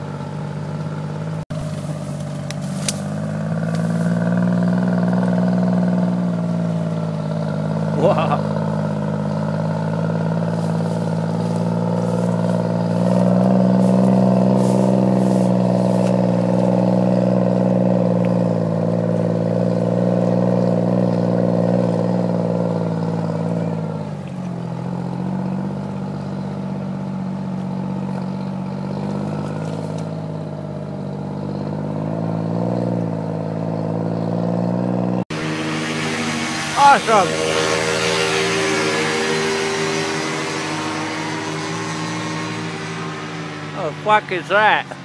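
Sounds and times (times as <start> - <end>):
paraglider engine droning: 0.0 - 45.0.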